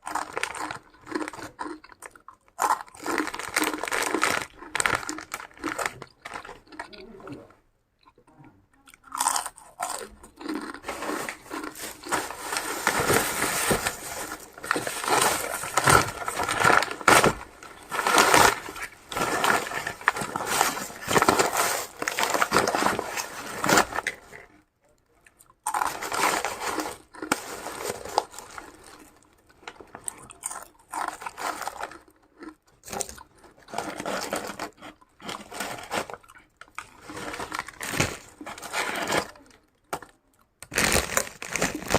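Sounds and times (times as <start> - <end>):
chewing crunchy food: 0.0 - 23.3, 23.9 - 41.9.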